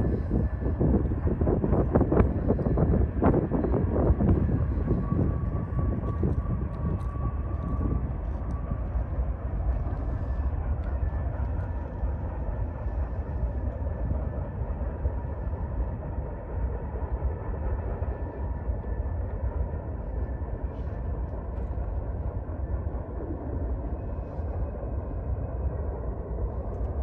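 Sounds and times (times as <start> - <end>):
freight train rumbling by: 0.0 - 27.0.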